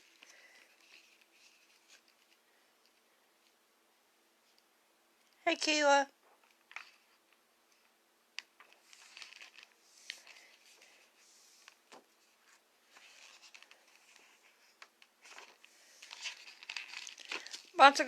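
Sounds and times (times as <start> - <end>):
faint rustles and clicks of handling: 0.0 - 18.0.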